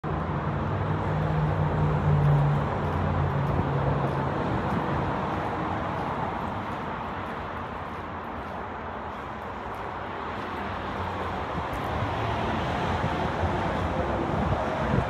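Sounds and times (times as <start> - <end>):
steady outdoor noise: 0.0 - 15.0
vehicle engine hum: 0.0 - 15.0.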